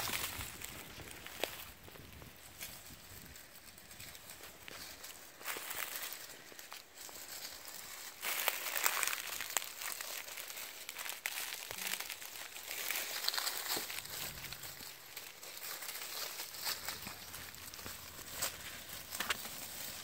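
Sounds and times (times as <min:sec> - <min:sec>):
dry leaves rustling and crackling: 0:00.0 - 0:20.0
small crunches and clicks: 0:03.9 - 0:20.0.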